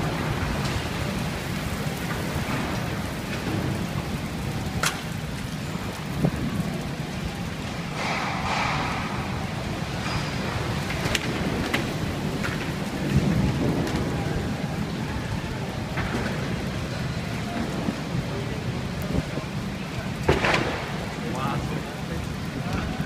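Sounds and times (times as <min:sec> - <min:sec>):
heavy rain downpour: 0:00.0 - 0:23.0
strong wind: 0:00.0 - 0:23.0.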